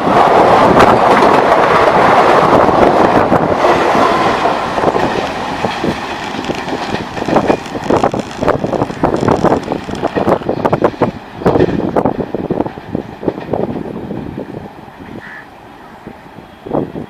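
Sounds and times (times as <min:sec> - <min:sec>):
train wheels clattering over rail joints: 0:00.0 - 0:14.4.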